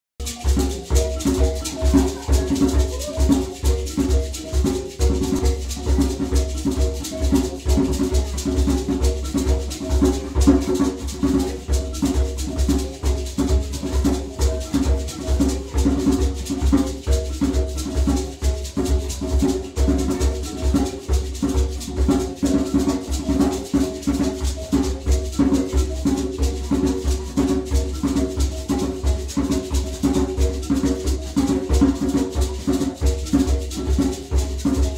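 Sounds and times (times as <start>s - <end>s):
gourd shakers: 0.2s - 34.9s
hand drum rhythm: 0.2s - 34.9s
mbira playing: 0.2s - 34.9s.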